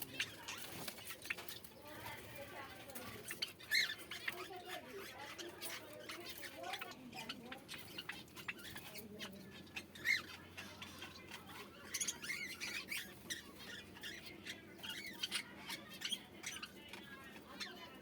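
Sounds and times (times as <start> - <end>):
birds chirping and squawking: 0.0 - 18.0.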